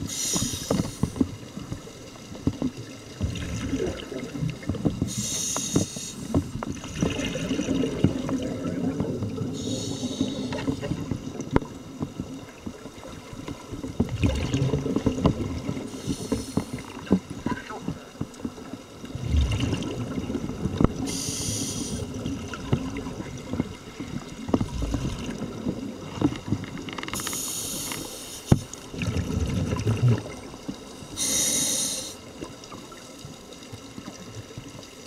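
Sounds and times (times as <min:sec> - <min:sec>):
low underwater rumble: 0:00.0 - 0:27.9, 0:28.6 - 0:31.4
regulator bubbles underwater: 0:00.0 - 0:35.0.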